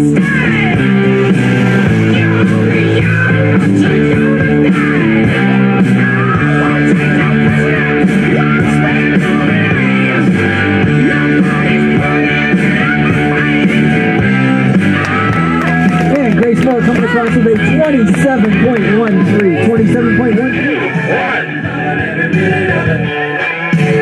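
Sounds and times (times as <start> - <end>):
rock music with guitar: 0.0 - 24.0.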